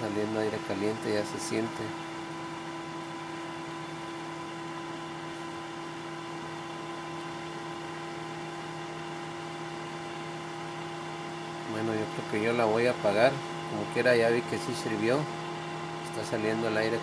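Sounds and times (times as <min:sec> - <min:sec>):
air fryer fan humming: 0:00.0 - 0:17.0.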